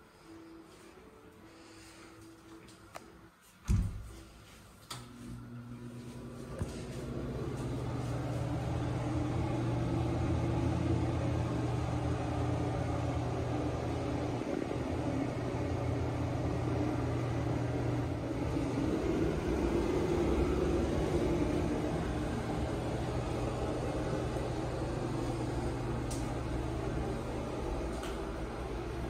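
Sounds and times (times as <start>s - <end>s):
ventilation fan humming: 0.0s - 29.0s.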